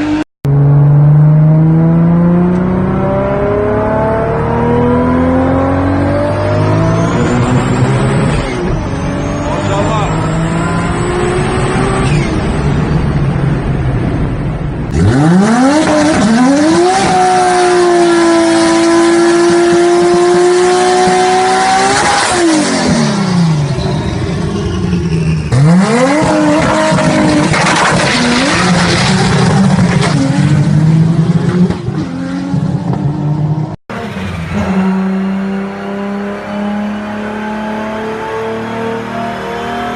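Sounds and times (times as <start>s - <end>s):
car engine accelerating at high revs: 0.0s - 12.3s, 14.9s - 23.6s, 25.5s - 39.9s.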